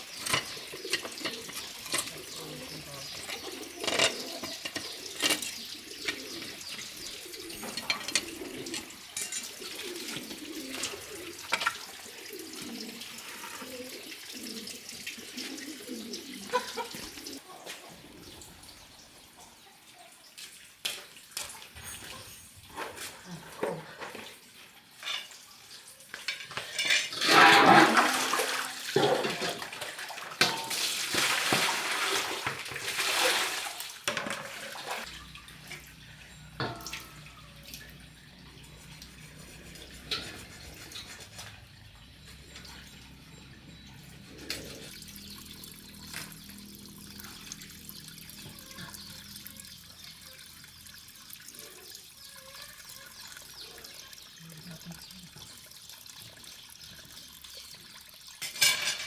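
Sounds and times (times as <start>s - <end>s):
water pouring and splashing: 0.0s - 43.1s, 44.4s - 59.0s.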